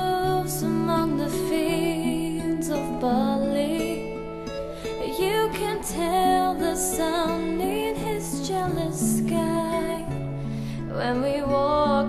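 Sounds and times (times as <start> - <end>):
gentle instrumental accompaniment: 0.0 - 12.0
person singing: 0.0 - 12.0.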